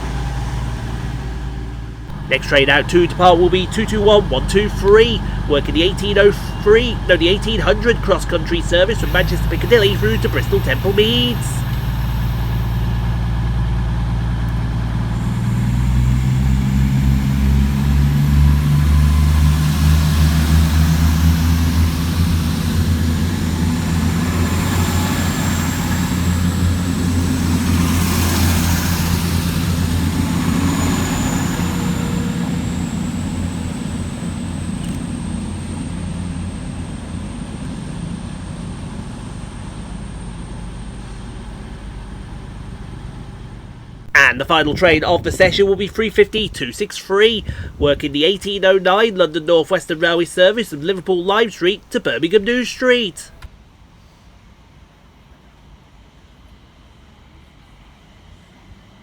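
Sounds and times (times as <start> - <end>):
diesel train engines: 0.0 - 53.6.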